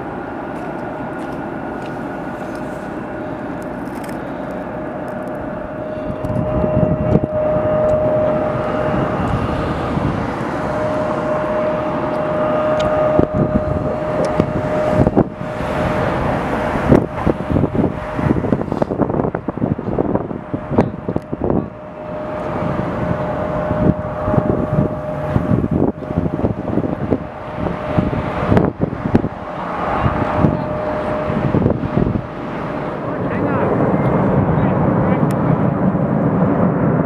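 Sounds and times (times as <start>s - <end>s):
aircraft engines whining: 0.0s - 37.0s
rushing noise: 0.0s - 37.0s
wind buffeting microphone: 0.0s - 37.0s.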